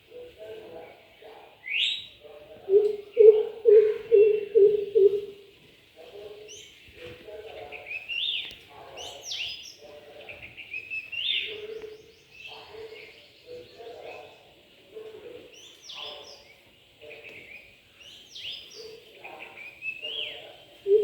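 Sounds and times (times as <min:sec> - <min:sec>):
birds chirping: 0:00.0 - 0:05.5, 0:06.1 - 0:21.0.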